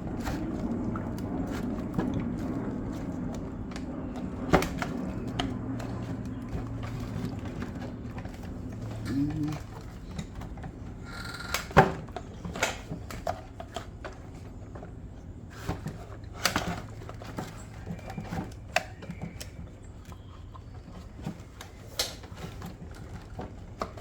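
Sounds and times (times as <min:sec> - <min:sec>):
engine parts clicking and knocking: 0:00.0 - 0:24.0.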